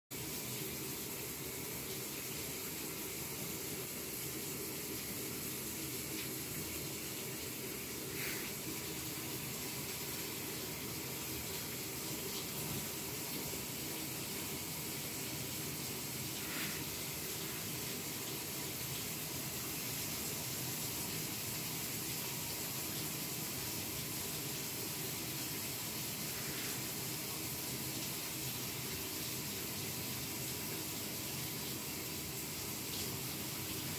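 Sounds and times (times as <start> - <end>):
steady hiss: 0.2 - 33.9.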